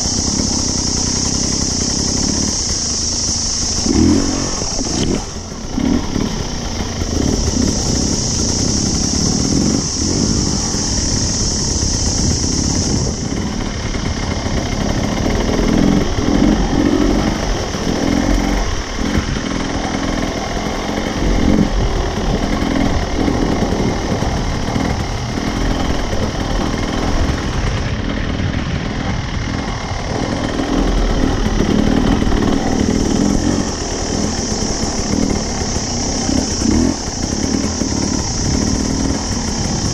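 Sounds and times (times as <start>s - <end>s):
dirt bike engine revving: 0.0s - 39.9s
steady high hiss: 0.0s - 39.9s.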